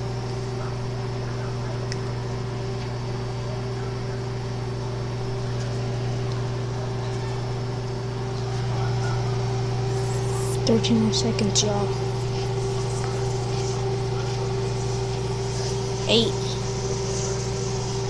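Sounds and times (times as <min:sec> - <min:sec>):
fan whirring: 0:00.0 - 0:18.0
microwave oven hum: 0:00.0 - 0:18.0.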